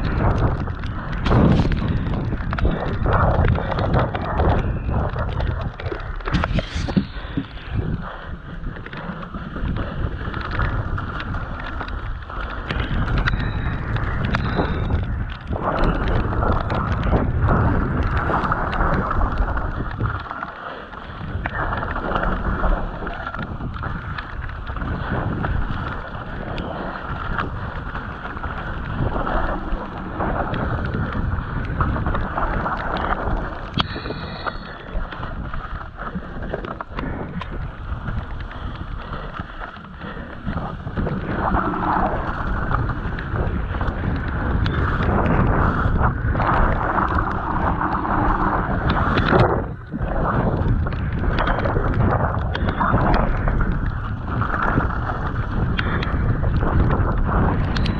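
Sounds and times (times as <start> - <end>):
bike rattling on rough ground: 0.0 - 57.9
wind buffeting microphone: 0.0 - 57.9.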